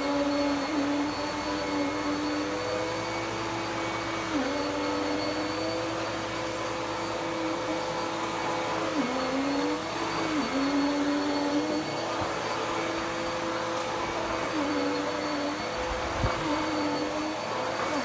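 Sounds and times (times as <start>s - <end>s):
vacuum cleaner running on carpet: 0.0s - 18.0s.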